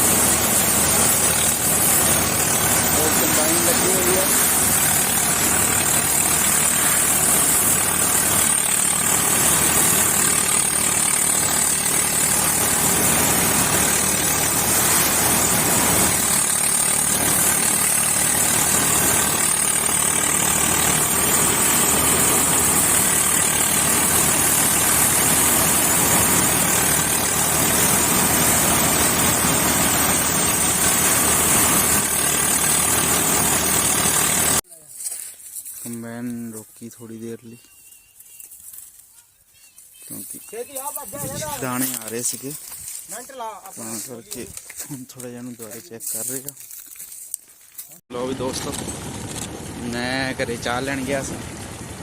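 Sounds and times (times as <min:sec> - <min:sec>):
combine harvester running: 0:00.0 - 0:34.6, 0:40.1 - 0:44.9, 0:48.1 - 0:52.0.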